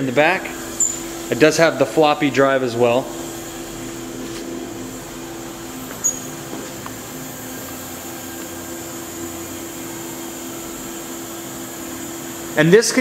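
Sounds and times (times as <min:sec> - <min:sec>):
milling machine hum: 0:00.0 - 0:13.0.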